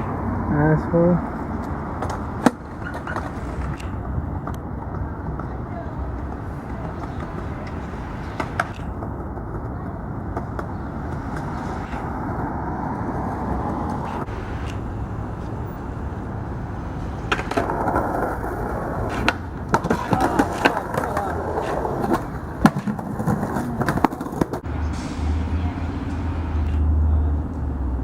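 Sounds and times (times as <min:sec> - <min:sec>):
skateboard wheels rolling on pavement: 0:00.0 - 0:28.0
skateboard clacks: 0:01.3 - 0:24.7.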